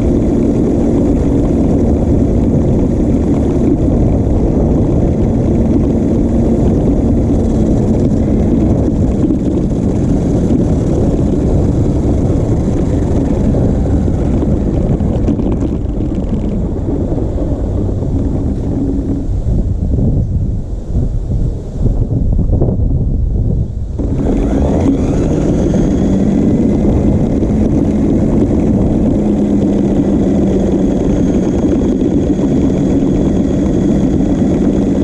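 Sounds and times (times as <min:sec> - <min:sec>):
electric motor hum: 0:00.0 - 0:19.9, 0:24.0 - 0:35.0
low rumble: 0:00.0 - 0:35.0.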